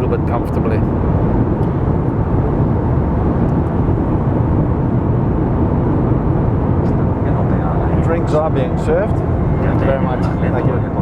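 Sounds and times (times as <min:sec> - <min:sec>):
airplane cabin engine hum: 0:00.0 - 0:11.0.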